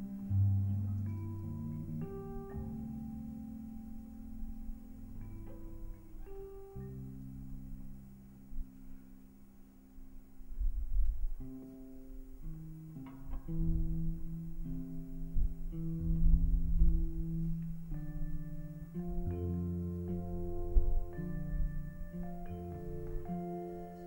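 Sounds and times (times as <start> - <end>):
deep low rumble: 0.0 - 8.9, 13.5 - 24.0
plucked guitar notes: 0.0 - 10.3, 11.0 - 24.0.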